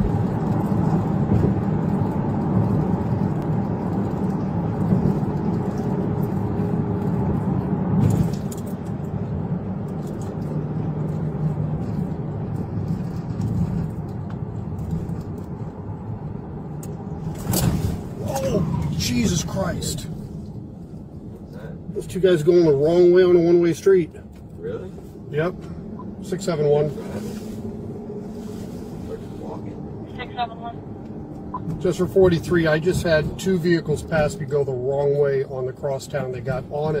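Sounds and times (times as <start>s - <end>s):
road and engine noise inside car: 0.0s - 37.0s.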